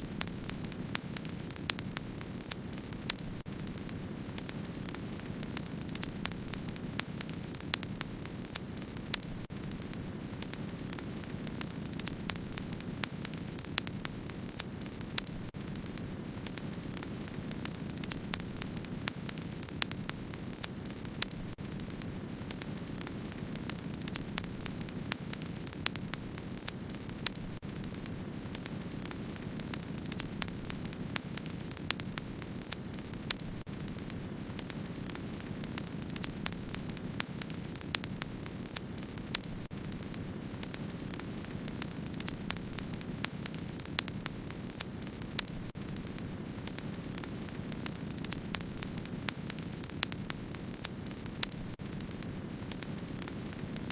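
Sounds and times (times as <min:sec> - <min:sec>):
fire popping: 0:00.0 - 0:53.9
wood fire crackling: 0:00.0 - 0:53.9.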